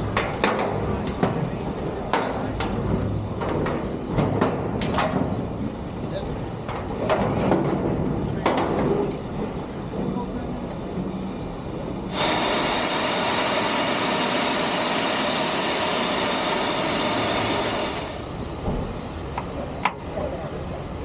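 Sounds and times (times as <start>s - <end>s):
locomotive venting steam: 0.0s - 21.0s.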